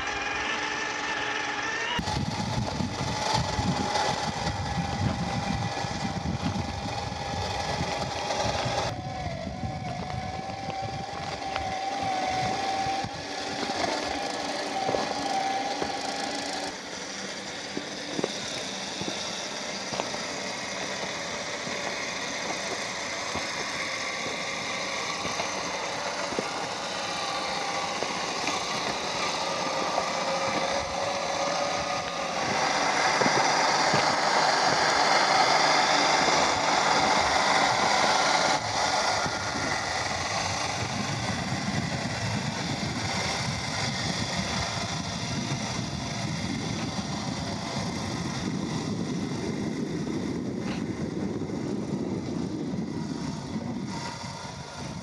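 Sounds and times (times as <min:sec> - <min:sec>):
heavy rumble: 0:00.0 - 0:55.0
rc car motor whining: 0:00.0 - 0:55.0.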